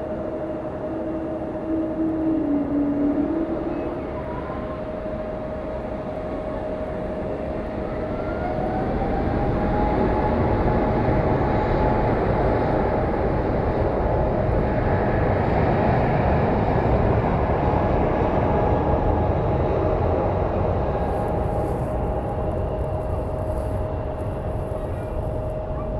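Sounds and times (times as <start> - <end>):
jet engines whining and rumbling: 0.0 - 25.9.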